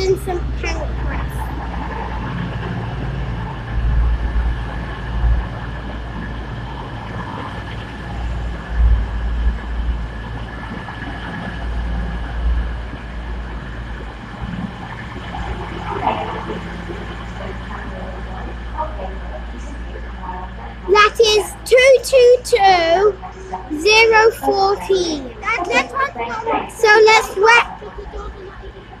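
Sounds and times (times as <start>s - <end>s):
constant high hum: 0.0s - 29.0s
diesel train rumbling: 0.0s - 29.0s.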